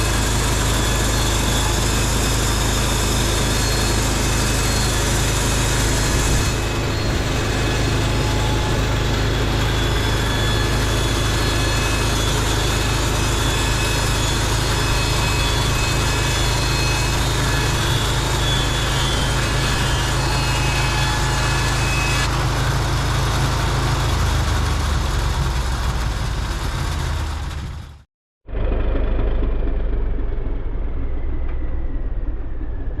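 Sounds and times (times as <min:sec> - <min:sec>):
faint high whine: 0:00.0 - 0:22.4, 0:28.5 - 0:33.0
bandsaw mill engine running: 0:00.0 - 0:33.0.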